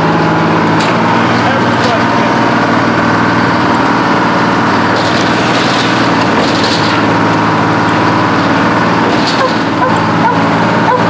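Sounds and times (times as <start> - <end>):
cable shovel running: 0.7 - 11.0.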